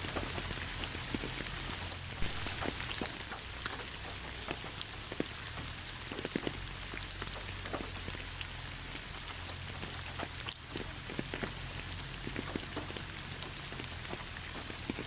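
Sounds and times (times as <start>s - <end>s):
raindrops tapping on a surface: 0.0s - 15.0s
steady rain hiss: 0.0s - 15.0s.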